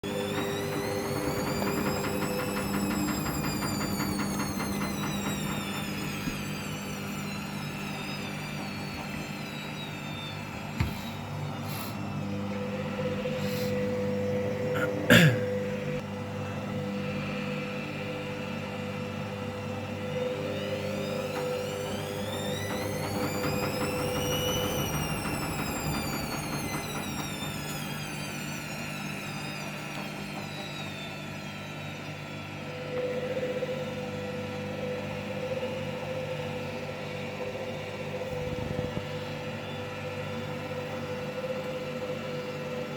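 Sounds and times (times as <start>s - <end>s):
washing machine motor whine: 0.0s - 42.9s.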